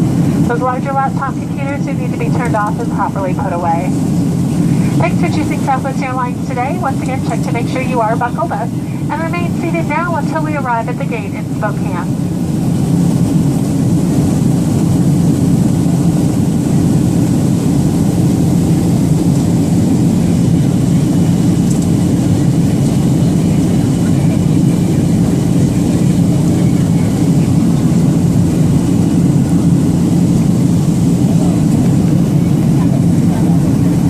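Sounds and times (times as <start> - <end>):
jet engines droning: 0.0 - 34.0.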